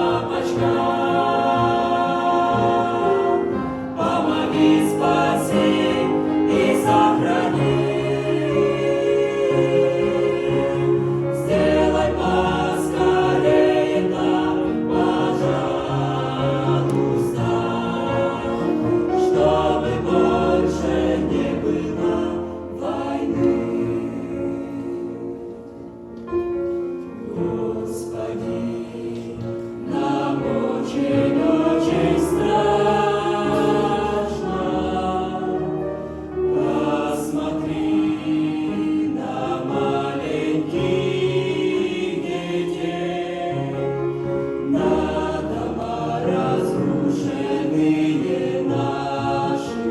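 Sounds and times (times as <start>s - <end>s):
choir singing held chords: 0.0s - 49.9s.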